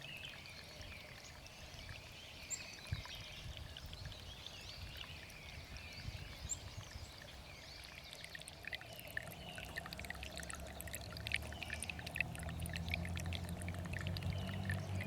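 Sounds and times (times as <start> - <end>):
stream trickling and bubbling: 0.0 - 15.0.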